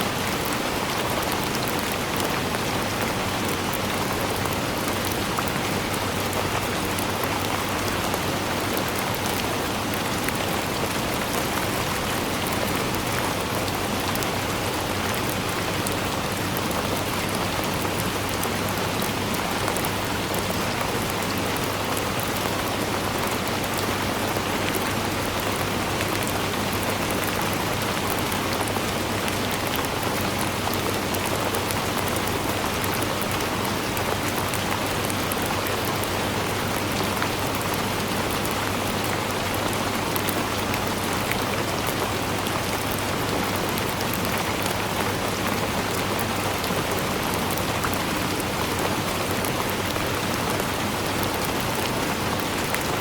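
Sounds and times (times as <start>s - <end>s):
rain hissing and pattering: 0.0s - 53.0s.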